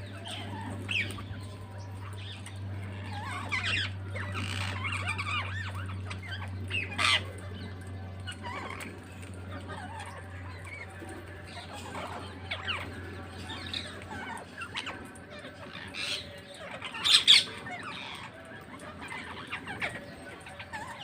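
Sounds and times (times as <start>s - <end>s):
parrots chirping and squawking: 0.0s - 21.0s.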